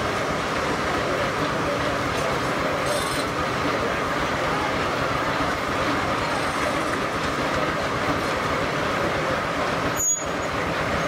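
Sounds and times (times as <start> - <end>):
continuous rushing noise: 0.0 - 11.0
sawmill mechanical clatter: 0.0 - 11.0.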